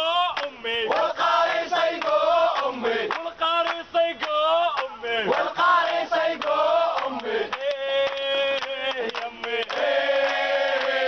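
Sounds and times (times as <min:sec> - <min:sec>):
hand-clapping in time: 0:00.3 - 0:01.2, 0:01.9 - 0:05.6, 0:06.3 - 0:11.0
crowd chanting in unison: 0:00.7 - 0:11.0.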